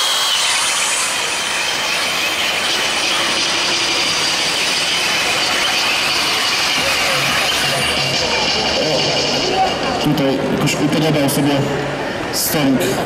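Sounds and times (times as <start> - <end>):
suction fan whining: 0.0 - 13.0.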